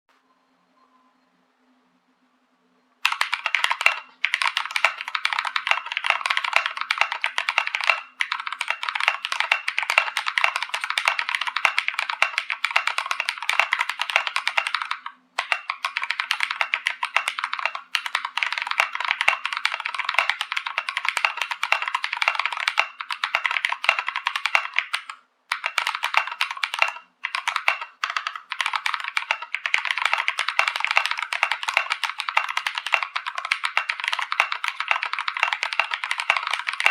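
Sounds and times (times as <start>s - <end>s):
fast mechanical keyboard typing: 3.0s - 36.9s.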